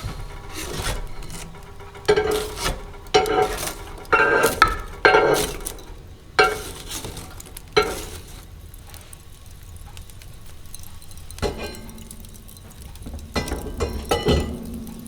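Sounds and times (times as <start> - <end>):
utensil clinking on dishware: 0.0 - 8.4, 11.4 - 15.0.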